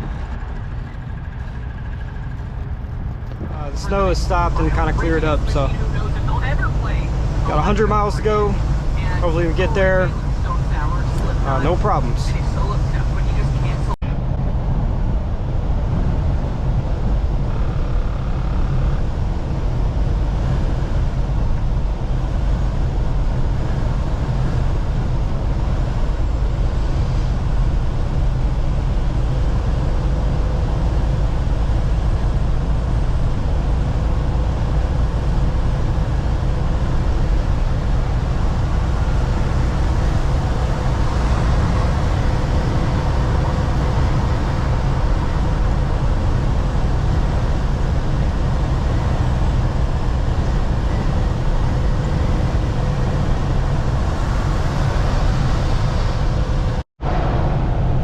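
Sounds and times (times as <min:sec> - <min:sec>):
diesel engine rumble: 0:00.0 - 0:58.0
tyre and road noise: 0:00.0 - 0:58.0.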